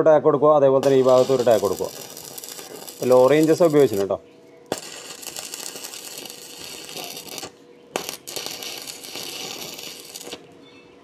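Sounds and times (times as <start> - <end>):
arc welding crackling: 0.8 - 10.6.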